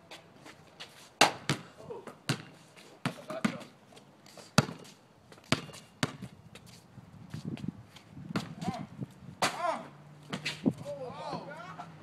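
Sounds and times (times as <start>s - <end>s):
basketball bouncing on pavement: 0.8s - 3.8s, 4.5s - 11.5s.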